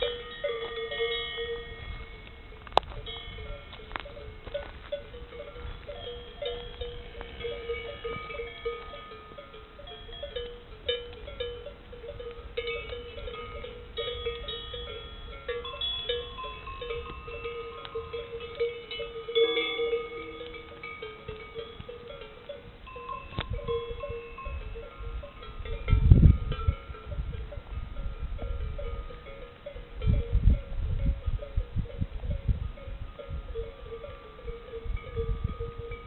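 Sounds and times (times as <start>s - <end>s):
cattle bells clanking: 0.0s - 36.0s.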